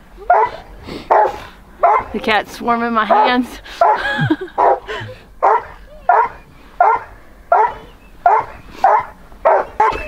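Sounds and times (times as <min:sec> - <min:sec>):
hound barking: 0:00.2 - 0:02.2, 0:03.1 - 0:04.0, 0:04.6 - 0:10.0.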